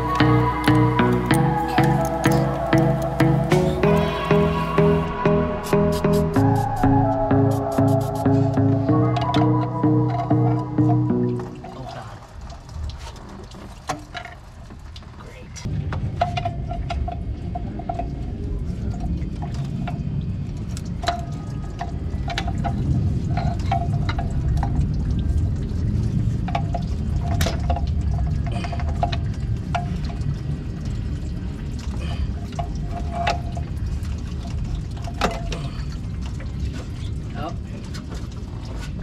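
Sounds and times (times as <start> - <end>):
coolant pouring and dripping: 0.0 - 5.2, 8.1 - 39.0.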